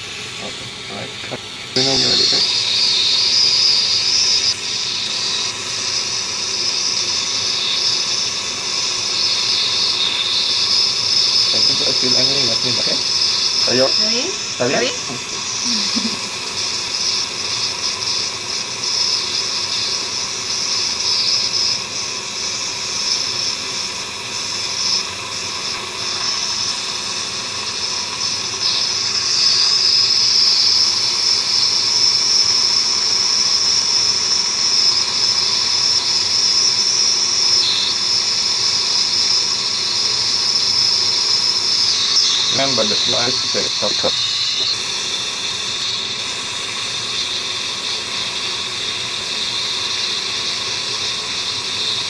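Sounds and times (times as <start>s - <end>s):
high-pitched dental equipment hiss: 0.0s - 52.0s.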